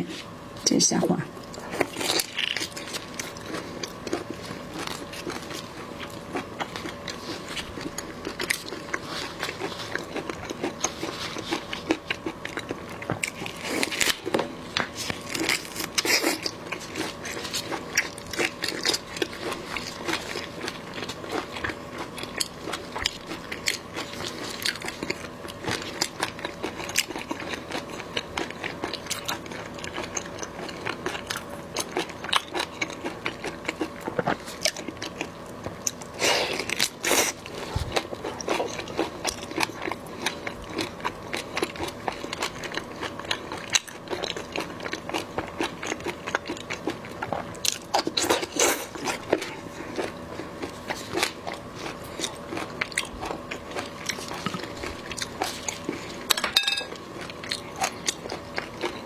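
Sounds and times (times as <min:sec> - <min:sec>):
chewing prawn with crisp crunches: 0:01.4 - 0:59.0.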